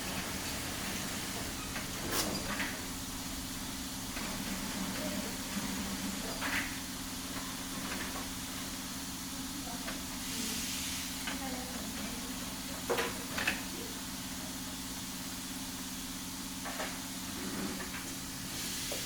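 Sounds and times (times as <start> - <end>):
electric hum of machinery: 0.0 - 19.0.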